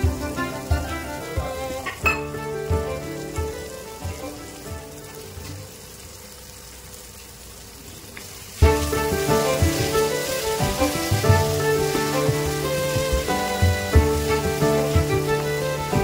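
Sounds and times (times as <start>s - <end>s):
instrumental background music: 0.0s - 5.8s, 8.6s - 16.0s
food sizzling in oil: 0.0s - 16.0s.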